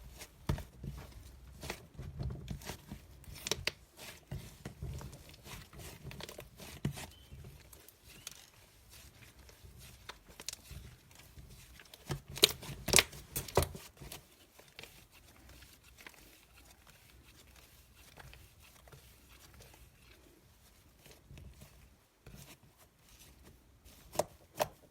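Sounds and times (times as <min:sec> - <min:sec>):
crinkling and tearing: 0:00.1 - 0:24.9.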